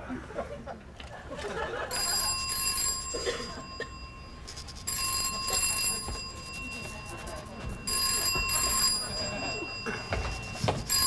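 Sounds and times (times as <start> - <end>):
telephone ringing: 1.7 - 11.0.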